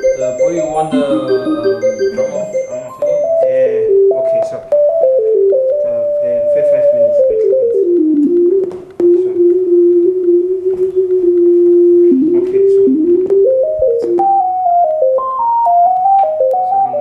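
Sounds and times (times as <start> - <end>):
synthesizer melody: 0.0 - 17.0.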